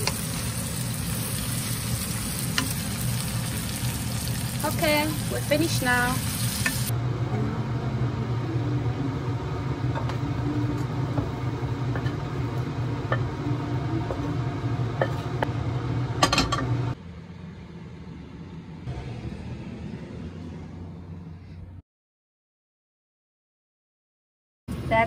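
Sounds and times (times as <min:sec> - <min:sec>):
low hum: 0:00.0 - 0:21.8.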